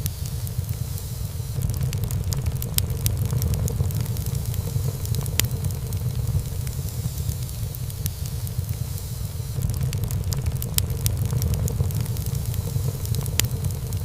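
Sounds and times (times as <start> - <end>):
wood fire crackling in fireplace: 0.0 - 14.0.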